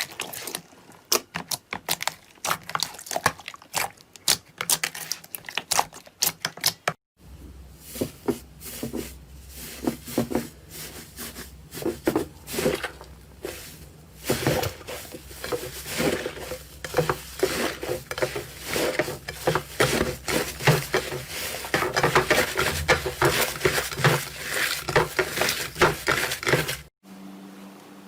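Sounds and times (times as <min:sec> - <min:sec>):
slime squelching: 0:00.0 - 0:06.9, 0:07.9 - 0:26.9.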